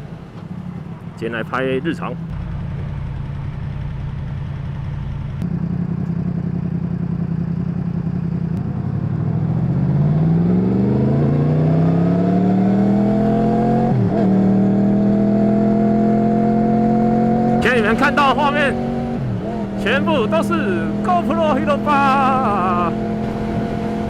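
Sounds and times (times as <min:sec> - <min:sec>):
motorcycle engine revving: 0:02.2 - 0:24.0.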